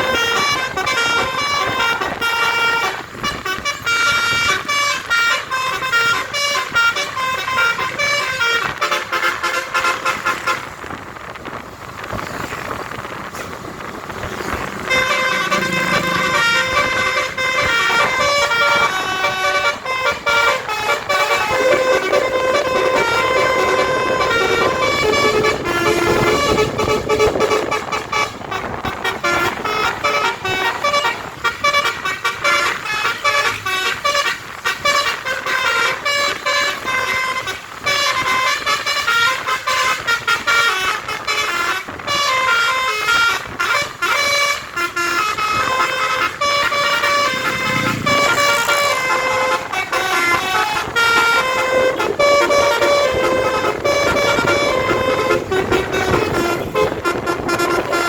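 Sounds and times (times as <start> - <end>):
musical air horn tune: 0.0 - 10.8, 13.6 - 58.0
road noise: 0.0 - 58.0.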